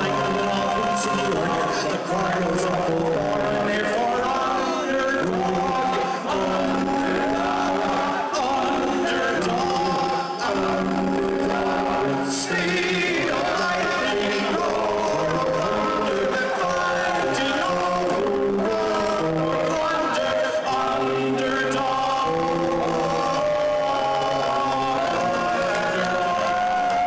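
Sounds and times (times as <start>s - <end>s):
male quartet singing harmony: 0.0s - 27.0s.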